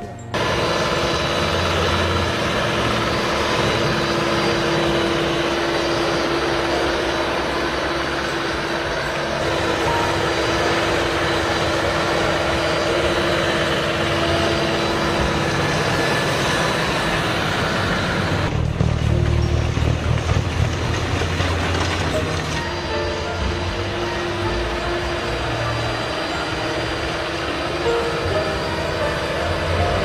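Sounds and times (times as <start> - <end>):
snowblower engine running: 0.3 - 30.0.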